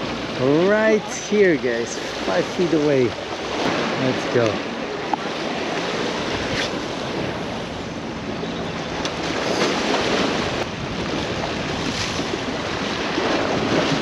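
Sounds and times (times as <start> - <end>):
surf washing onto beach: 0.0 - 7.7, 9.0 - 14.0
wind buffeting microphone: 1.6 - 14.0.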